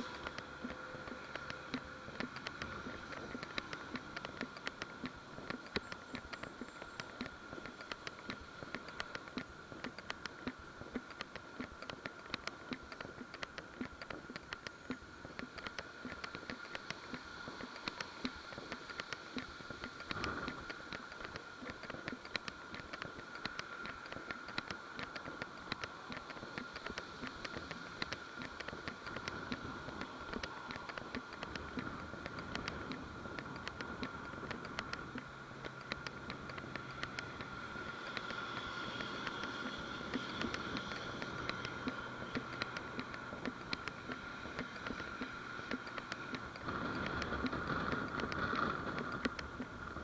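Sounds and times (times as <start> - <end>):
footsteps and camera jostling clicks: 0.0 - 50.0
light hiss: 0.0 - 50.0.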